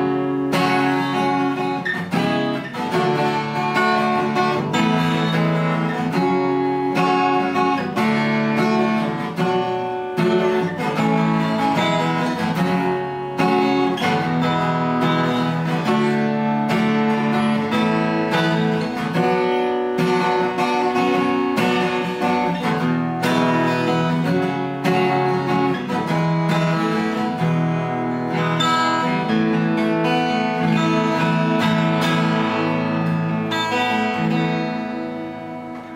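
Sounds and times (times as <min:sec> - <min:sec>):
acoustic guitar strummed and picked: 0:00.0 - 0:35.9.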